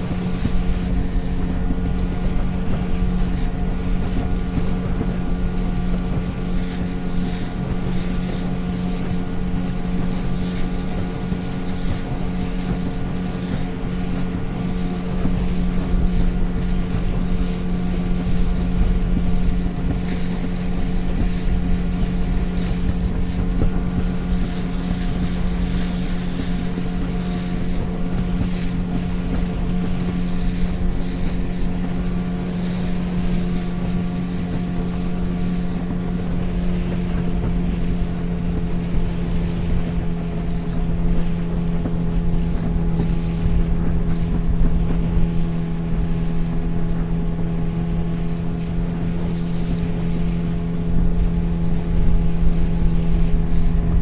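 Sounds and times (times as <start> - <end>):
outboard engine drone: 0.0 - 54.0
water rushing against hull: 0.0 - 54.0
wind buffeting microphone: 0.0 - 54.0.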